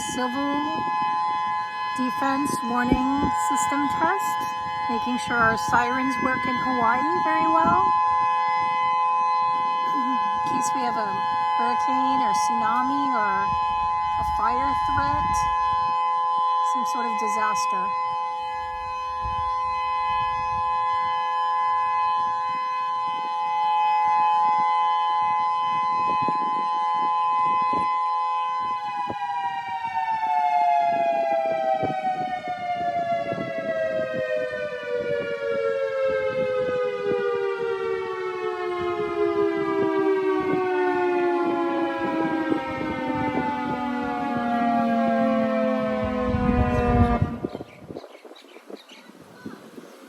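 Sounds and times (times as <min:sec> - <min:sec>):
warning siren: 0:00.0 - 0:48.8.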